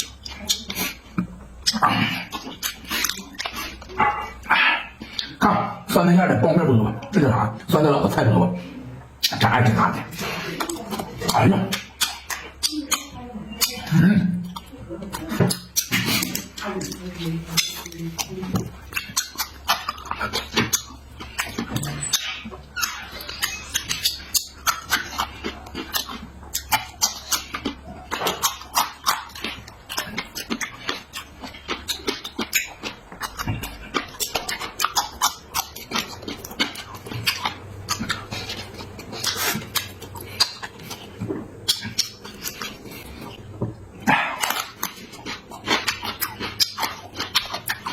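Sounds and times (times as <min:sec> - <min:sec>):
person chewing and smacking: 0:00.0 - 0:47.9.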